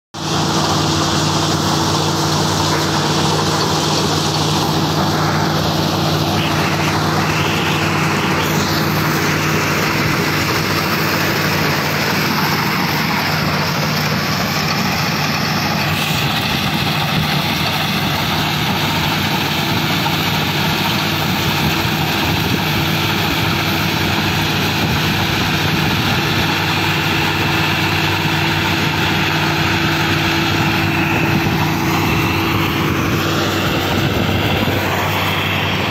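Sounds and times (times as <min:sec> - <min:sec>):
combine harvester engine running: 0:00.1 - 0:35.9
harvester working noise: 0:00.1 - 0:35.9.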